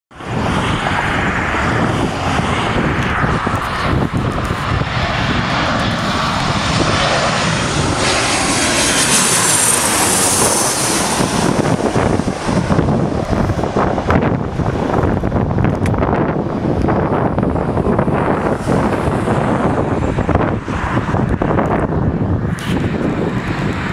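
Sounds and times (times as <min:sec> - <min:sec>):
high jet whine: 0:00.1 - 0:23.9
jet engines roaring: 0:00.1 - 0:23.9.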